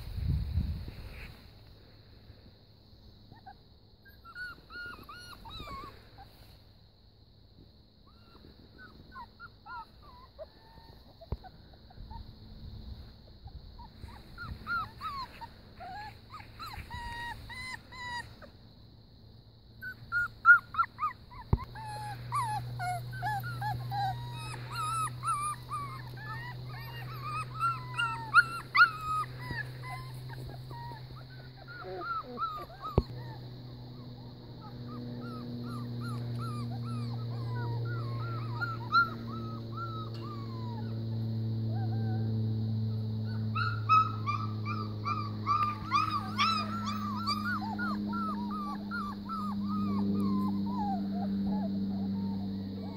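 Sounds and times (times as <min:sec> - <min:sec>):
faint low hum: 0:00.0 - 0:52.9
puppies whimpering and yipping: 0:03.3 - 0:06.6, 0:08.0 - 0:12.4, 0:13.4 - 0:18.5, 0:19.8 - 0:52.9.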